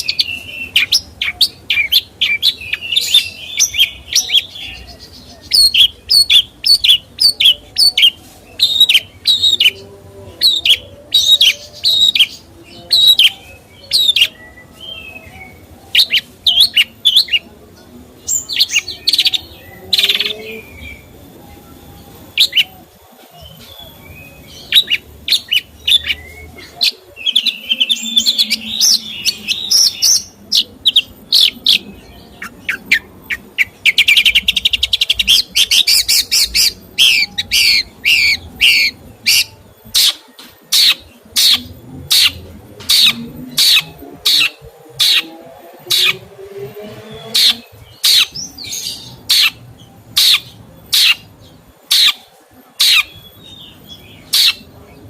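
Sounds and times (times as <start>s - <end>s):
songbird chirping and whistling: 0.0s - 9.8s, 10.4s - 17.5s, 18.2s - 55.0s.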